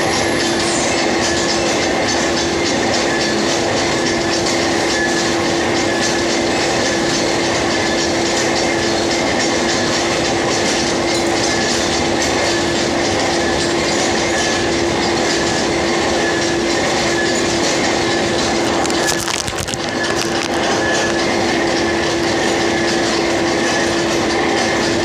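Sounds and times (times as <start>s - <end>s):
lathe running: 1.0s - 25.0s.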